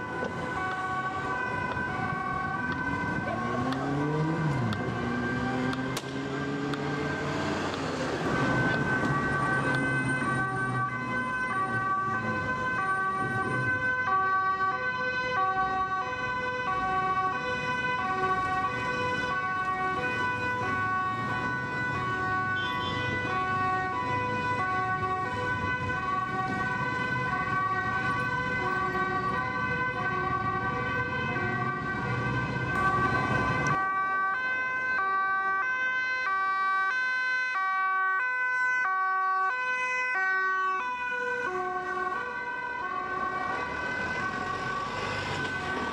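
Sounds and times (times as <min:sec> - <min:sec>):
steady high siren tone: 0:00.0 - 0:45.9
street traffic rumbling: 0:00.0 - 0:45.9
two-tone police sirens: 0:00.0 - 0:45.9.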